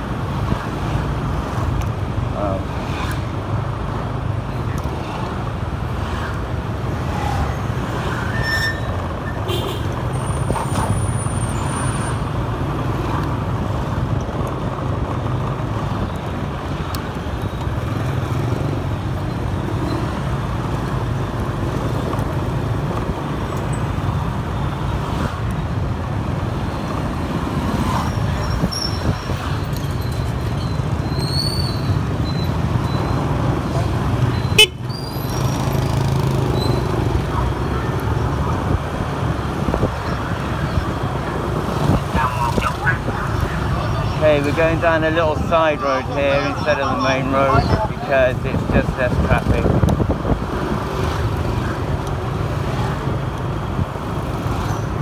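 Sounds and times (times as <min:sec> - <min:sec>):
scooter engine and road rumble: 0:00.0 - 0:55.0.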